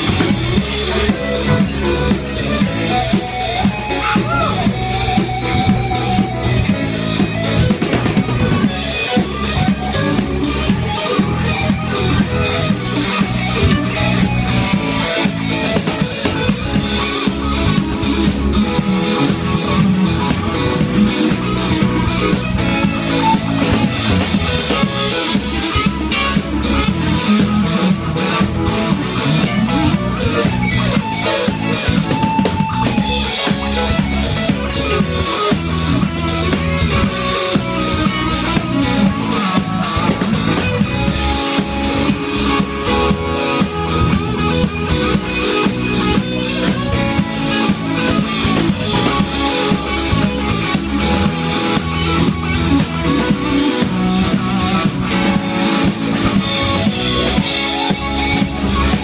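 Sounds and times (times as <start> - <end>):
bass guitar: 0.0 - 59.0
drum kit beat: 0.0 - 59.0
electric guitar: 0.0 - 59.0.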